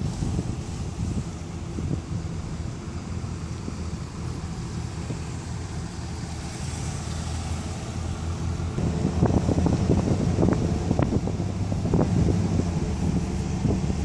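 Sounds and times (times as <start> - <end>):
car rumbling slowly: 0.0 - 14.0
wind buffeting microphone: 0.0 - 14.0.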